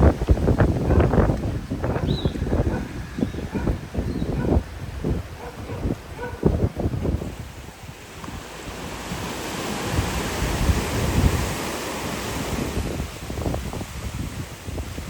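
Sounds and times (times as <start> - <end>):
surf hissing on rocky beach: 0.0 - 15.0
wind buffeting microphone: 0.0 - 15.0.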